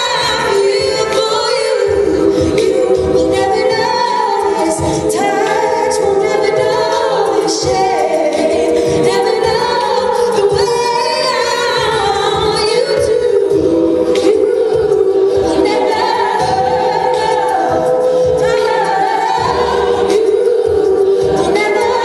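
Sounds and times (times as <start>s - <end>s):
vocal percussion beat: 0.0s - 22.0s
women singing in harmony: 0.0s - 22.0s.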